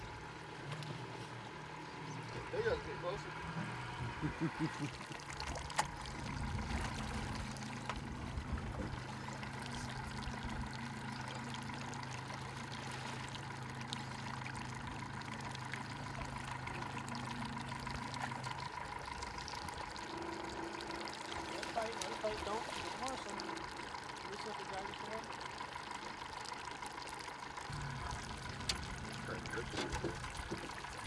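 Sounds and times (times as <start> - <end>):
steady low hum: 0.0 - 26.4, 27.6 - 31.0
river water running and splashing: 0.0 - 31.0.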